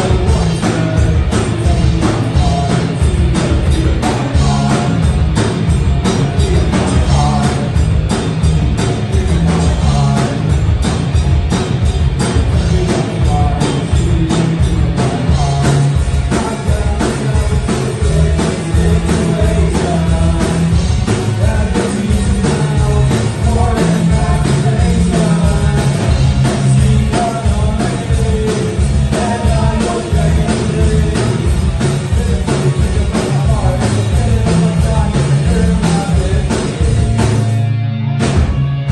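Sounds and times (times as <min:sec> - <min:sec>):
person singing: 0:00.0 - 0:05.2, 0:06.1 - 0:07.8, 0:09.0 - 0:10.5, 0:12.5 - 0:37.4
driving drum beat: 0:00.0 - 0:38.9
electric guitars: 0:00.0 - 0:38.9
live rock band playing: 0:00.0 - 0:38.9.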